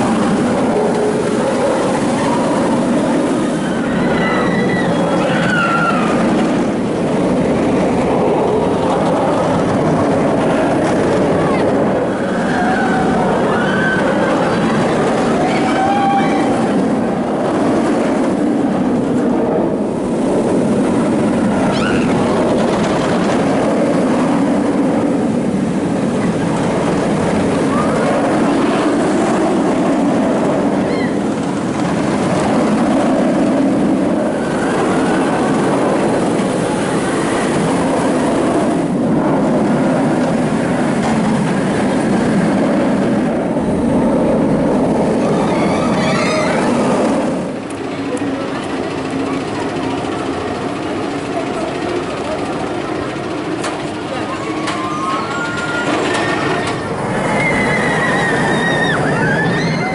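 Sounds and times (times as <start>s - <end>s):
roller coaster wheels rumbling: 0.0s - 59.9s.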